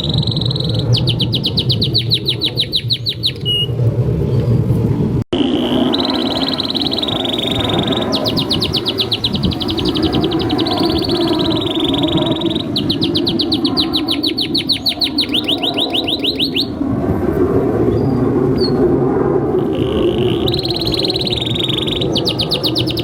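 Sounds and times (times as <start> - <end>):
canary singing: 0.0 - 3.7, 5.4 - 16.8, 19.6 - 23.0.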